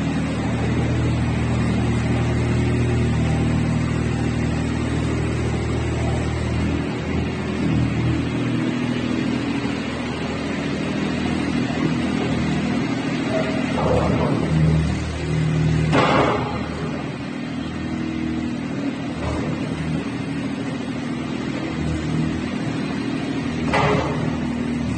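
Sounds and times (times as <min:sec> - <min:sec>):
skid steer loader engine running: 0:00.0 - 0:24.9.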